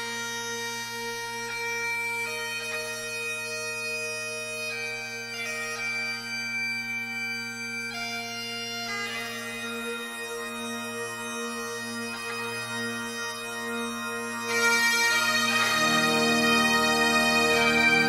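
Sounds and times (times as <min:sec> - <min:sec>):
bagpipe tune over drone: 0:00.0 - 0:18.0.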